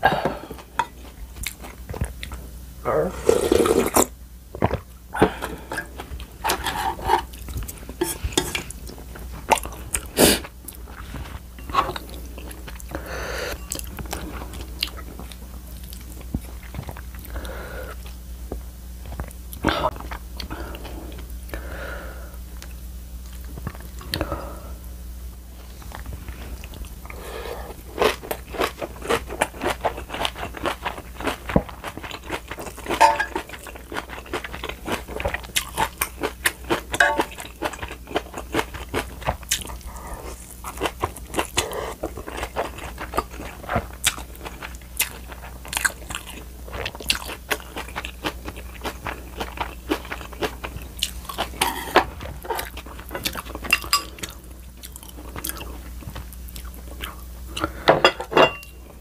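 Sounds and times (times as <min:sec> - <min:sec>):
chewing and crunching food: 0:00.1 - 0:02.5, 0:03.3 - 0:21.6, 0:22.6 - 0:24.4, 0:25.6 - 0:57.9.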